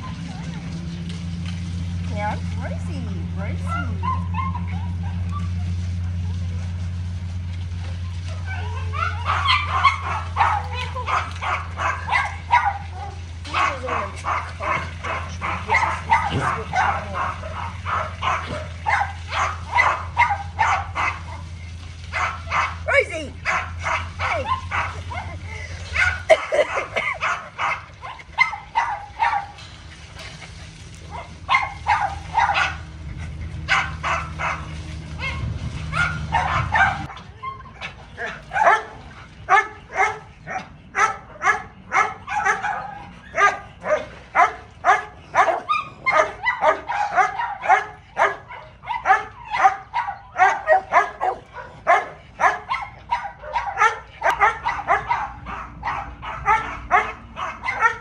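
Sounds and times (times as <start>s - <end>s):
dogs barking: 0.0s - 58.0s
low steady rumble: 0.0s - 58.0s.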